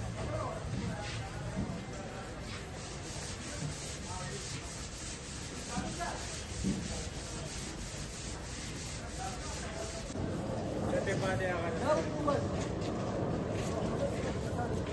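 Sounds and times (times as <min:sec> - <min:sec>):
hand sanding car panel: 0:00.0 - 0:12.4.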